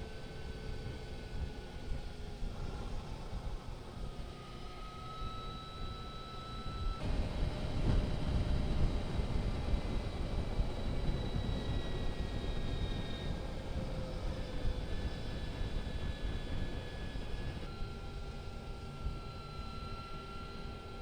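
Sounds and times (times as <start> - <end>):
electric motor whine: 0.2 - 21.0.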